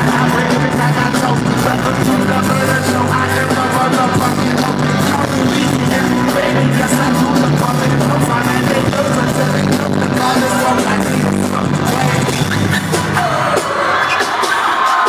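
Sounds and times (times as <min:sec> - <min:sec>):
loud live concert music: 0:00.0 - 0:15.0.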